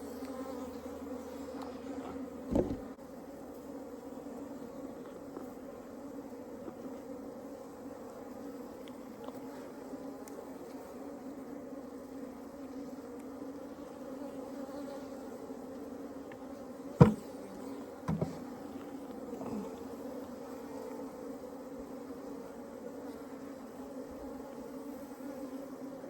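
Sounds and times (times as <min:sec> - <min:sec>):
bees buzzing: 0:00.0 - 0:26.0.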